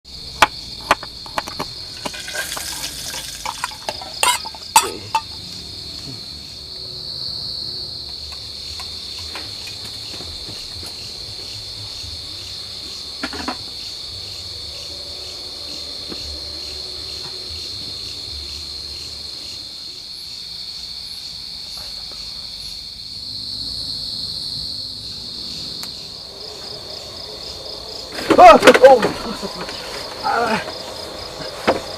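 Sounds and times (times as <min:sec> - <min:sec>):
insects chirring: 0:00.1 - 0:31.9.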